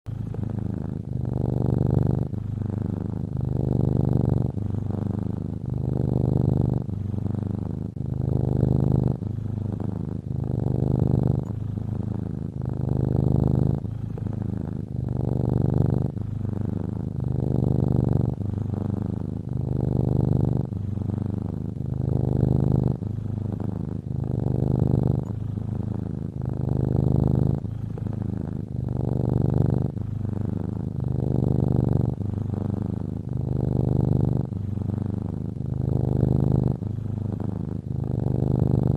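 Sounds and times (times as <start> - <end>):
cat snoring: 0.0 - 38.9.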